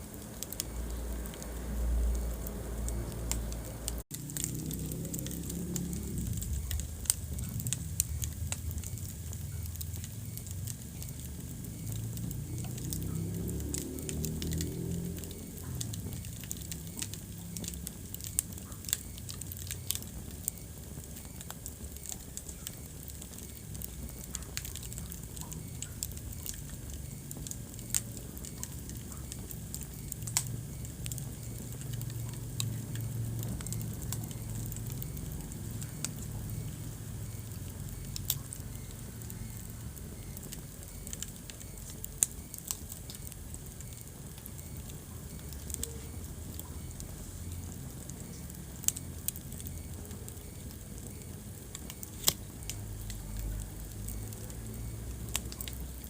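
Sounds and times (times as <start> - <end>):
low steady fire rumble: 0.0 - 56.0
wood fire crackling and popping: 0.0 - 56.0.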